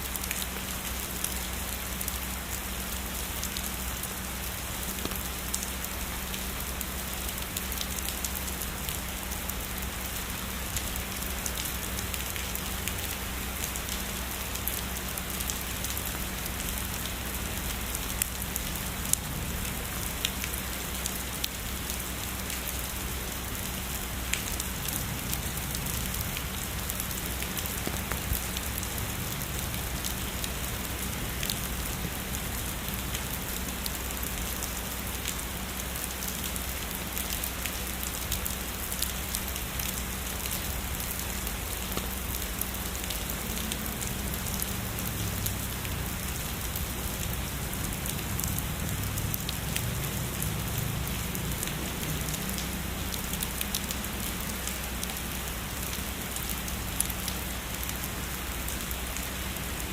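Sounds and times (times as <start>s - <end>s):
heavy rainfall: 0.0s - 59.9s
raindrops ticking close by: 0.0s - 59.9s.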